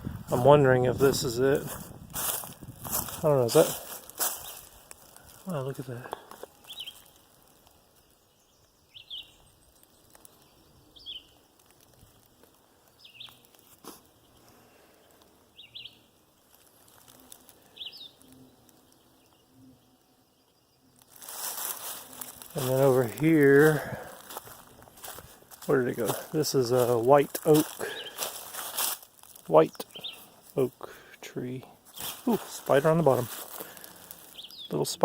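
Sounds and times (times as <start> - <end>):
songbird singing: 2.4 - 35.0.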